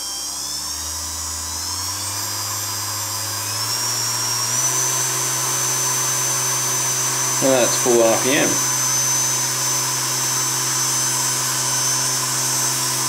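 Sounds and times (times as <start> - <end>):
bench polisher motor whining: 0.0 - 13.0.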